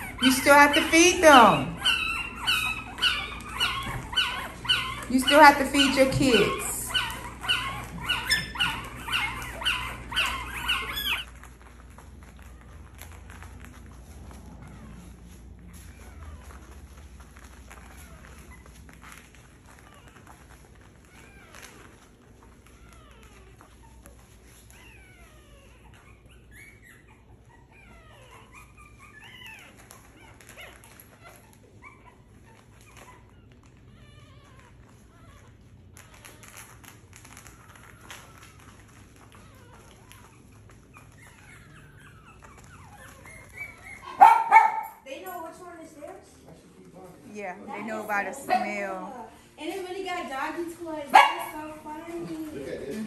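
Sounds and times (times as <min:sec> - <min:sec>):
puppies squealing: 0:00.0 - 0:53.0.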